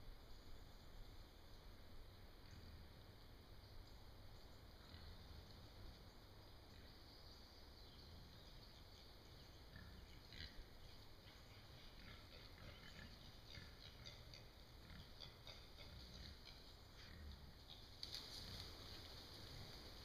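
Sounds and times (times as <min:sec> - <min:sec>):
rustling in woods: 0:00.0 - 0:20.0.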